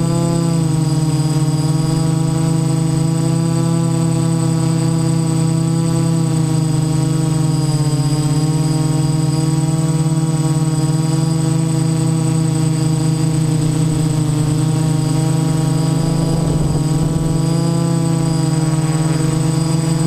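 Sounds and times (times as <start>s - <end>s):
drone motors and propellers buzzing: 0.0s - 20.0s
thin high whine: 0.0s - 20.0s.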